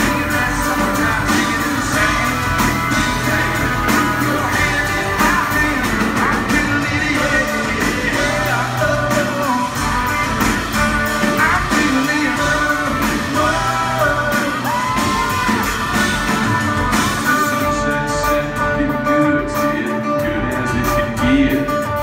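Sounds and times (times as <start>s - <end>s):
live country rock band: 0.0s - 22.0s
person singing: 0.0s - 22.0s.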